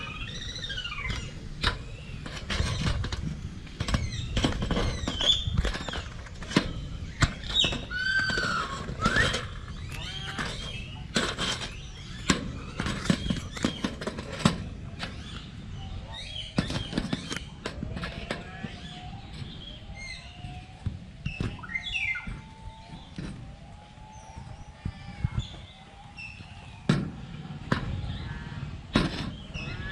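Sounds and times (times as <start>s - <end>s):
chirping bird calls: 0.0s - 29.9s.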